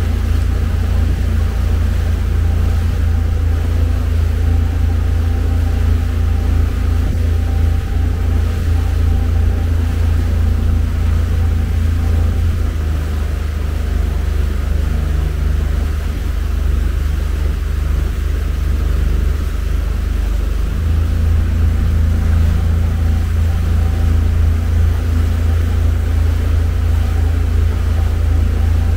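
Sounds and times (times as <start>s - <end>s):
motorboat engine rumbling: 0.0s - 28.9s
water and wind noise: 0.0s - 28.9s.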